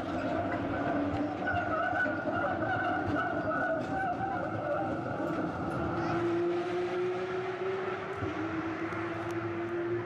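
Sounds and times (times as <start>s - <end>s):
street noise: 0.0s - 10.0s
vehicle engine whine: 0.0s - 10.0s.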